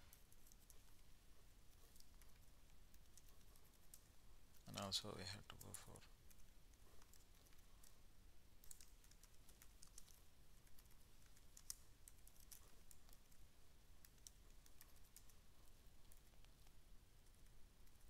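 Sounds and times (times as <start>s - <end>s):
faint typing on keyboard: 0.0s - 18.0s.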